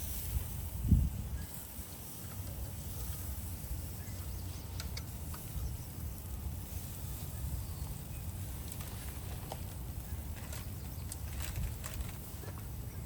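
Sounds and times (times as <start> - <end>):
grill crackling: 0.0 - 13.0.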